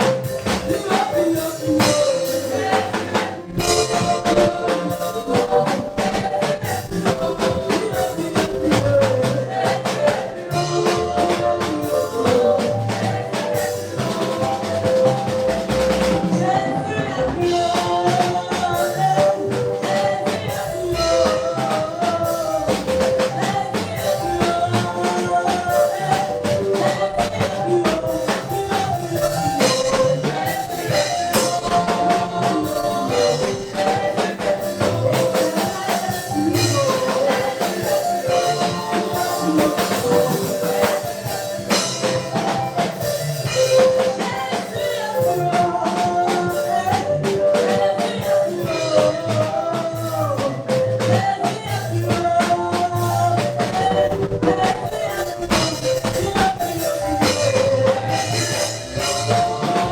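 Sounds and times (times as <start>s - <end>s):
choir singing: 0.0s - 59.9s
drum kit: 0.0s - 59.9s.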